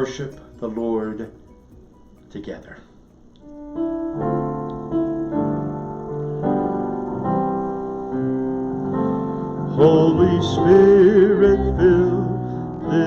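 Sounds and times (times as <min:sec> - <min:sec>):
electric piano chords: 0:00.0 - 0:12.5.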